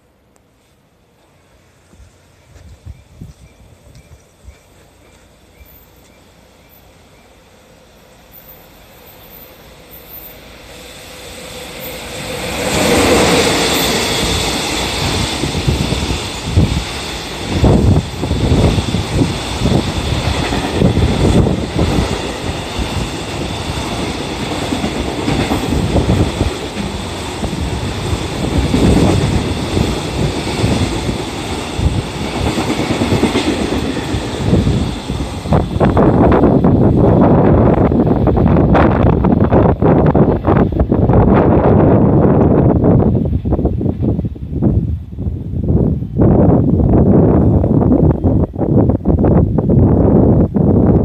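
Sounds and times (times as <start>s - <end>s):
electric locomotive passing: 0.0s - 51.0s
freight train wheels on rails: 0.0s - 51.0s.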